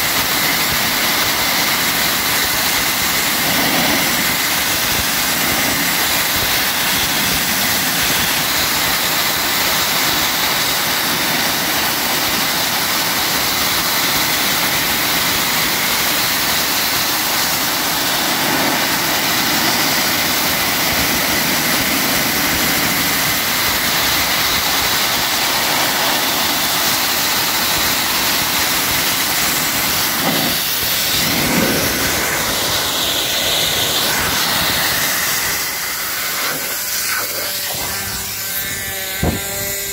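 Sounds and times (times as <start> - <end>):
abrasive blasting nozzle hissing: 0.0 - 39.9.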